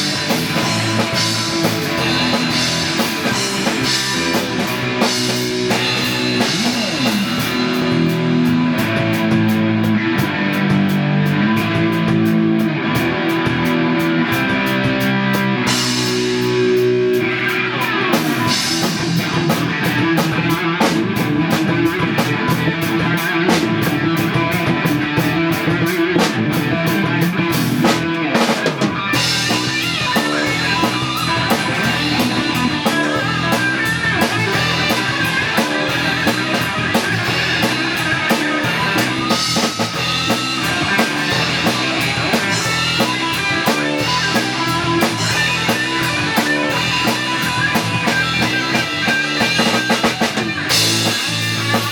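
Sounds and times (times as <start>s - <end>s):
fast drum hits: 0.0s - 9.7s, 17.9s - 51.9s
rock music with electric guitar: 0.0s - 51.9s.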